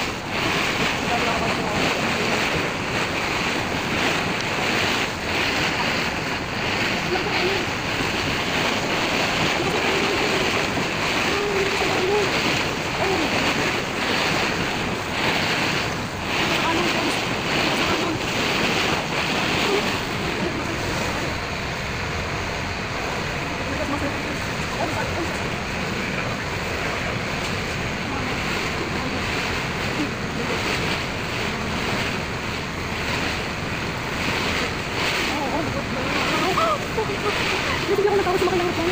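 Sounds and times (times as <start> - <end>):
choppy sea water splashing: 0.0 - 38.9
wind blowing across microphone: 0.0 - 38.9.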